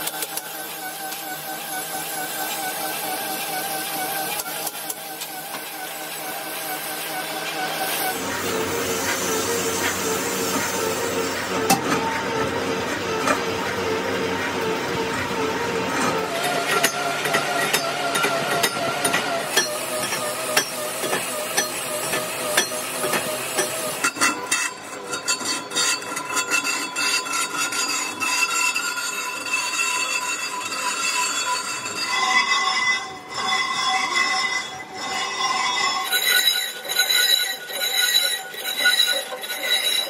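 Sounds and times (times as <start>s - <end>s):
lathe cutting metal squeal: 0.0s - 40.0s.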